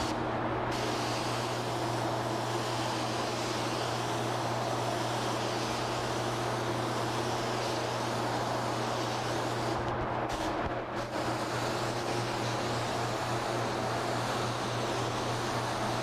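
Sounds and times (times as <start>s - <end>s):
air hissing: 0.0s - 16.0s.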